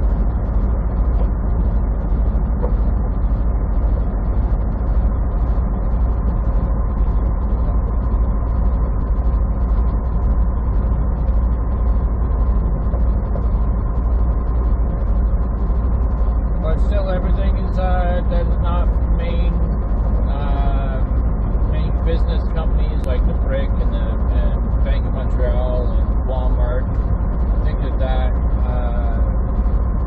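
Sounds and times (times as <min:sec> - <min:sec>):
road noise: 0:00.0 - 0:30.0
truck diesel engine rumble: 0:00.0 - 0:30.0.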